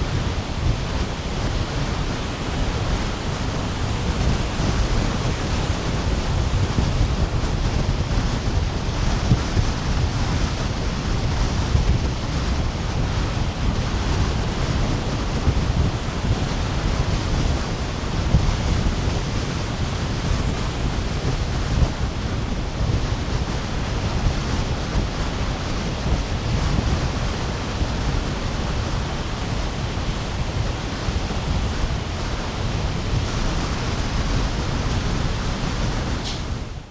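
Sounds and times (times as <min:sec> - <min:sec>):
waves breaking on beach: 0:00.0 - 0:36.9
wind rumble on microphone: 0:00.0 - 0:36.9.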